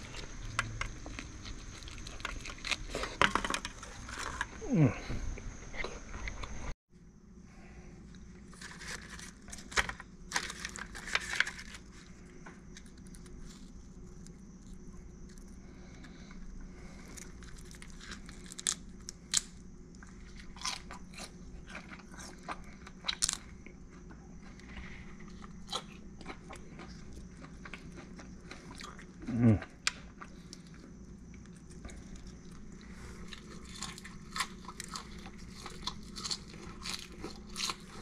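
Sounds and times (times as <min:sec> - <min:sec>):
crunching and chewing: 0:00.0 - 0:04.6, 0:08.0 - 0:38.0
faint steady hum: 0:00.0 - 0:38.0.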